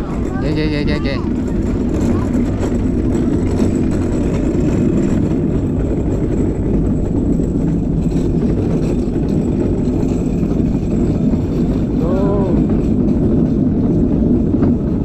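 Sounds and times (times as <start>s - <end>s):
cart wheels rumbling on asphalt: 0.0s - 15.0s.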